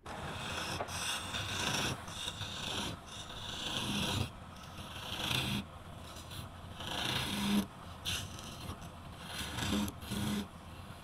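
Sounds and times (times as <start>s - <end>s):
lathe tool scraping wood: 0.0s - 10.5s.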